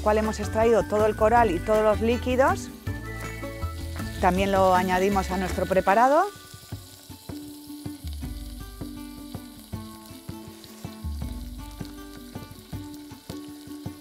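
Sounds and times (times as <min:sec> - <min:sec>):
food sizzling in a saucepan: 0:00.0 - 0:14.0
soft background music: 0:00.0 - 0:14.0.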